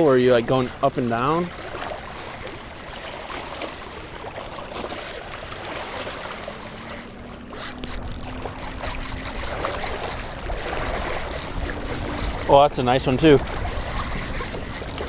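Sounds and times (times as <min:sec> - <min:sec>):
small waves lapping shore: 0:00.0 - 0:15.0
wind buffeting microphone: 0:00.0 - 0:15.0.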